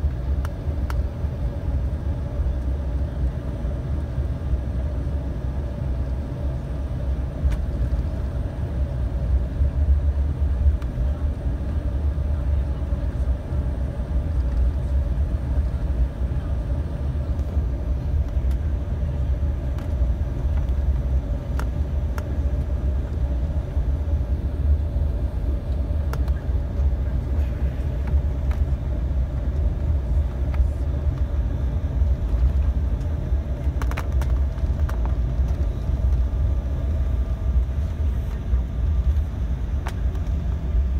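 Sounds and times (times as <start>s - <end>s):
airliner cabin rumble: 0.0s - 40.9s
constant hum: 0.0s - 40.9s.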